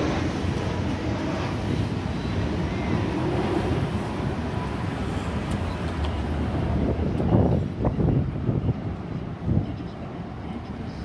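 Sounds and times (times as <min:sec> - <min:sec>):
jet engines rumbling: 0:00.0 - 0:11.0
wind on the microphone: 0:00.0 - 0:11.0.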